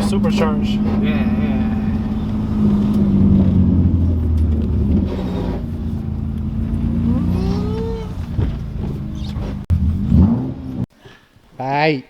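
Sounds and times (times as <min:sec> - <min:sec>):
car engine low drone: 0:00.0 - 0:10.9.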